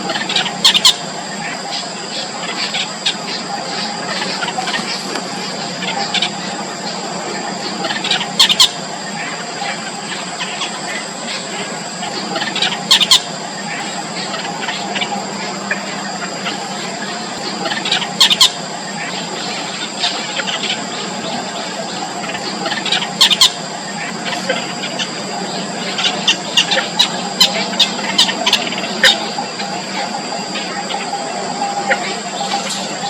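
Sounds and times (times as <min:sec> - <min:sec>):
nestlings squealing: 0:00.0 - 0:33.0
steady background hum: 0:00.0 - 0:33.0.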